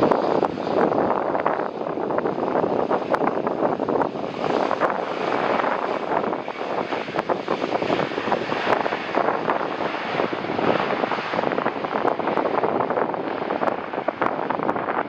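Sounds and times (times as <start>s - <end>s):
jet airliner engine rushing: 0.0s - 15.0s
wind buffeting microphone: 0.0s - 15.0s.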